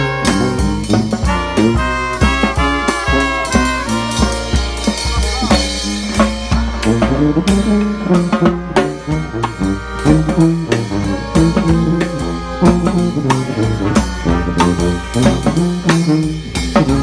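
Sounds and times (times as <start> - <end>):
brass band playing: 0.0 - 17.0
drums keeping a beat: 0.0 - 17.0
sousaphone bass line: 0.0 - 17.0.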